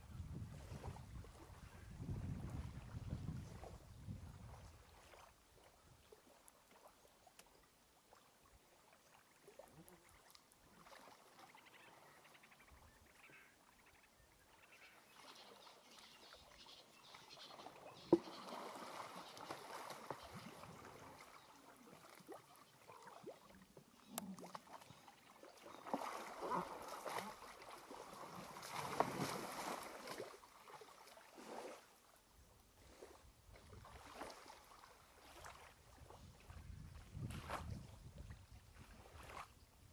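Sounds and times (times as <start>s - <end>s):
water sloshing and splashing: 2.5s - 11.7s, 15.4s - 32.1s, 32.8s - 39.6s.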